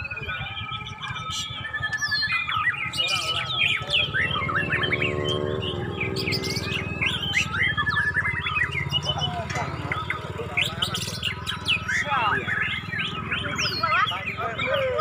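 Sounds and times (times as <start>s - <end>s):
birds singing whistles and trills: 0.0s - 15.0s.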